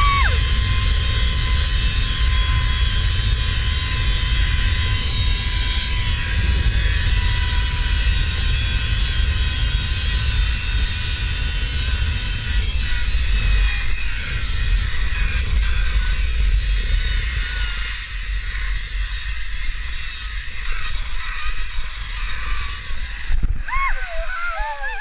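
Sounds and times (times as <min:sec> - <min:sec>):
high whine of pulleys on cable: 0:00.0 - 0:25.0.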